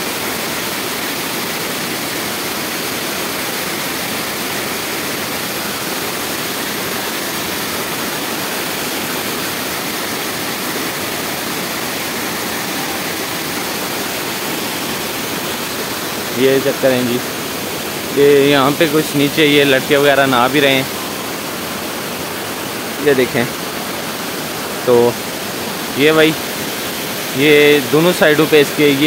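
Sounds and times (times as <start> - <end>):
waterfall rushing onto rock: 0.0 - 29.0.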